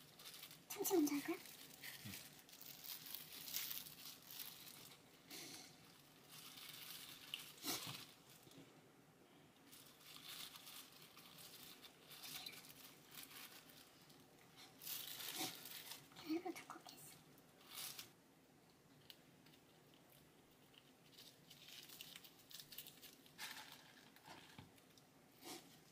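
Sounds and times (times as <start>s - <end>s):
plastic glove crinkling: 0.0s - 8.7s, 9.5s - 18.2s, 18.9s - 25.9s.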